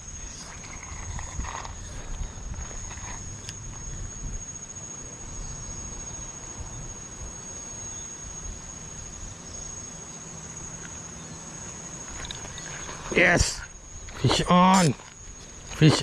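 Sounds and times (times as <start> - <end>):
insect high-pitched drone: 0.0 - 16.0.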